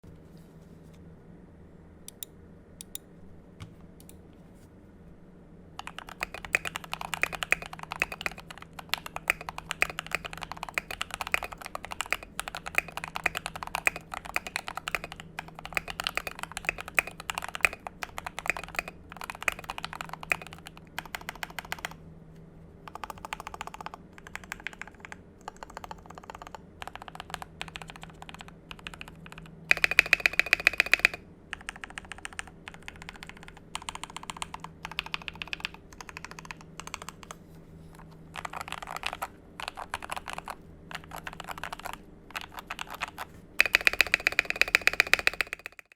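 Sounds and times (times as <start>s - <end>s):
mechanical keyboard typing: 5.8s - 22.0s, 22.8s - 37.4s, 38.0s - 45.9s.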